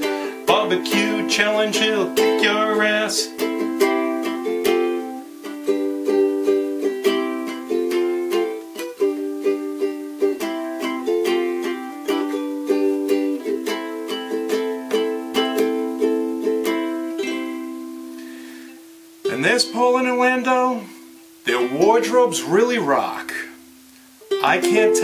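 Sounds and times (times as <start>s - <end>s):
ukulele strummed: 0.0s - 25.0s.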